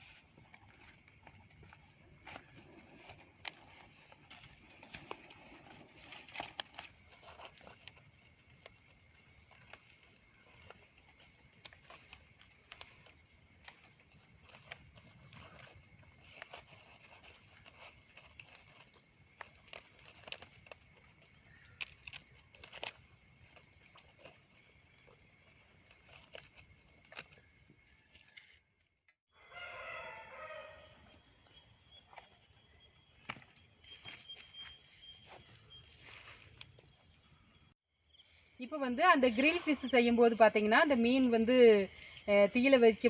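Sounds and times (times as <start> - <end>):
crickets chirring: 0.0 - 43.0.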